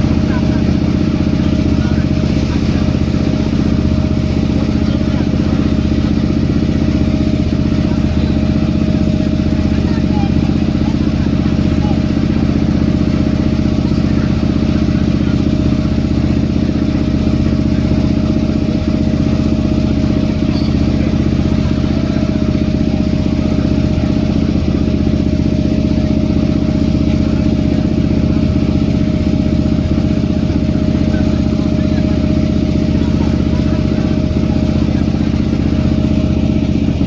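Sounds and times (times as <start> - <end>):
boat engine droning: 0.0 - 37.0.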